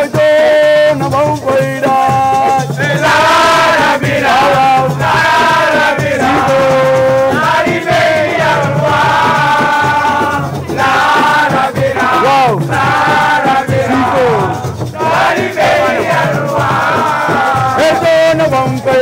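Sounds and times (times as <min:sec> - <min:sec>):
crowd chanting: 0:02.7 - 0:19.0.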